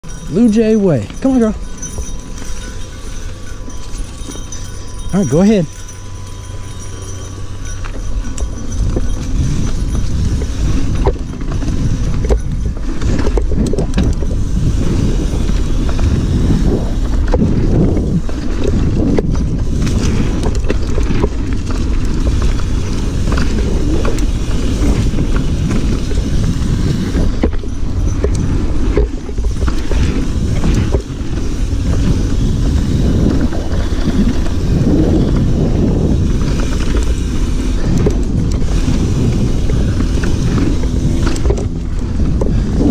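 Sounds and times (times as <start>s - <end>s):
bike knocking and rattling: 0.0s - 42.9s
bike tyres rumbling on dirt: 0.0s - 42.9s.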